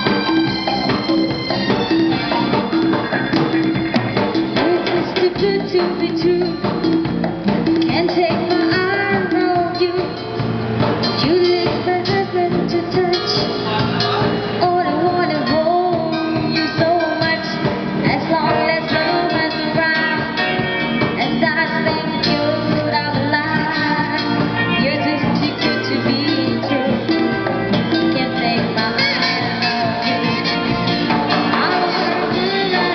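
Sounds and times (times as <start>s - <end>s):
person singing: 0.0s - 7.1s, 7.8s - 10.4s, 11.2s - 32.9s
bass guitar: 0.0s - 32.9s
drum kit: 0.0s - 32.9s
electric guitar: 0.0s - 32.9s.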